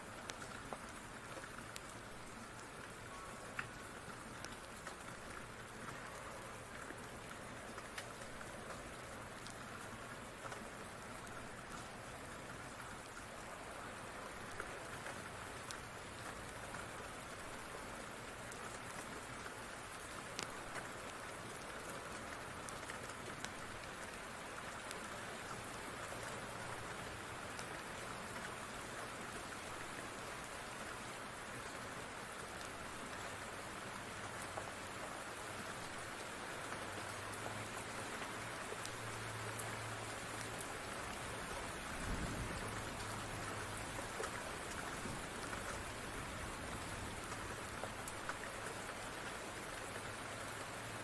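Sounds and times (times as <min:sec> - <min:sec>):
faint ticks of raindrops: 0:00.0 - 0:51.0
steady rain: 0:00.0 - 0:51.0.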